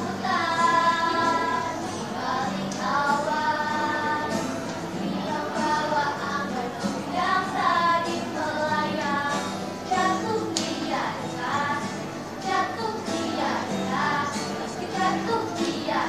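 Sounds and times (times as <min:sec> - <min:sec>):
acoustic guitar: 0:00.0 - 0:16.0
girls singing pop song: 0:00.0 - 0:16.0.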